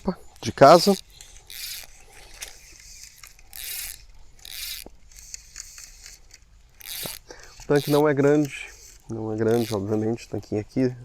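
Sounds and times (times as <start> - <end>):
fishing reel ratchet buzzing: 0.0 - 10.6.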